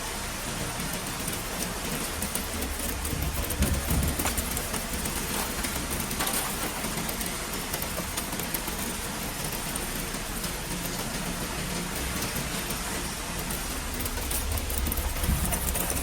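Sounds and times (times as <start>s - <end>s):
machinery humming and hissing: 0.0s - 16.0s.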